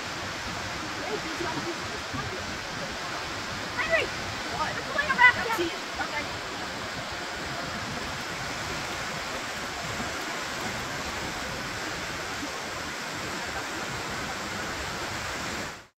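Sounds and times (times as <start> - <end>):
river water rushing over rapids: 0.0 - 15.9.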